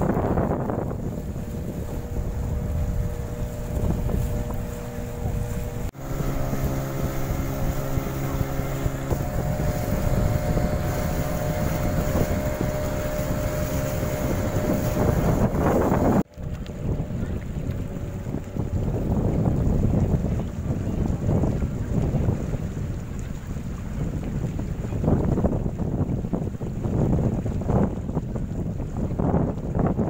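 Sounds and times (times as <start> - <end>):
boat engine droning: 0.0 - 30.0
water rushing: 0.0 - 30.0
wind buffeting microphone: 0.0 - 30.0.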